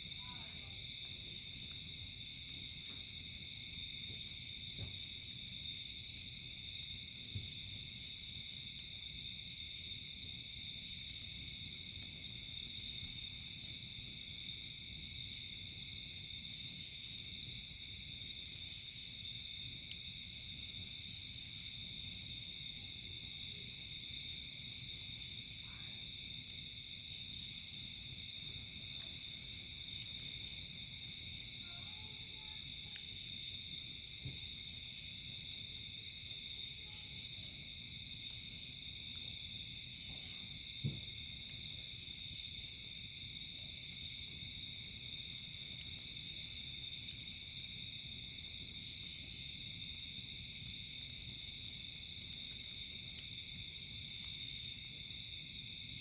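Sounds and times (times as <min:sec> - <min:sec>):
campfire rumble and pops: 0:00.0 - 0:31.7, 0:32.6 - 0:56.0
crickets trilling: 0:00.0 - 0:56.0.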